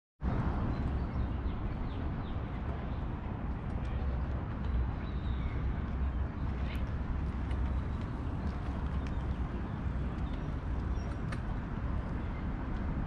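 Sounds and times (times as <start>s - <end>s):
low city rumble: 0.2s - 13.0s.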